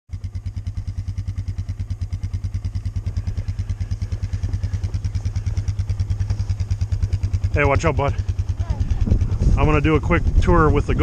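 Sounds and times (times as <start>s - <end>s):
small engine idling: 0.1s - 11.0s.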